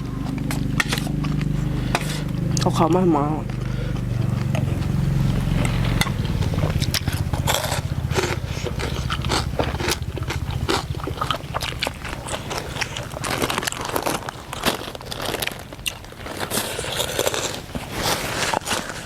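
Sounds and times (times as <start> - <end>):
crunching crispy pork rinds: 0.0 - 19.0
steady low hum: 0.0 - 19.0.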